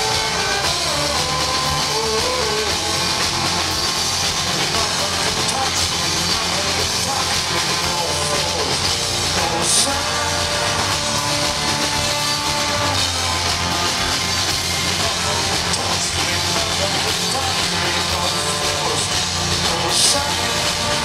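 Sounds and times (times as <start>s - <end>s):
accordion: 0.0s - 21.0s
drum kit: 0.0s - 21.0s
electric bass: 0.0s - 21.0s.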